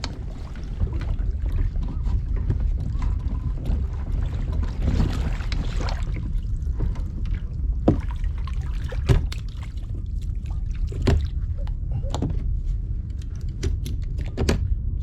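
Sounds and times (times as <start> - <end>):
water moving around kayak: 0.0 - 15.0
wind rumbling on microphone: 0.0 - 15.0.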